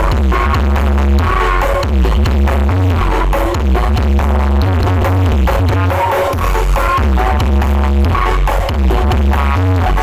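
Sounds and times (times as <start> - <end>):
loud electronic dance music: 0.0 - 10.0.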